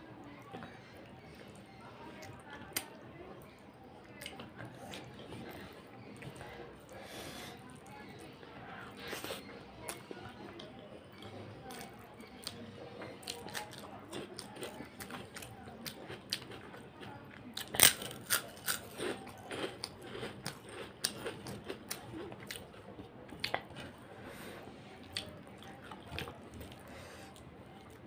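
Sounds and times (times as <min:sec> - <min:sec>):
chewing and crunching food: 0:00.1 - 0:28.0.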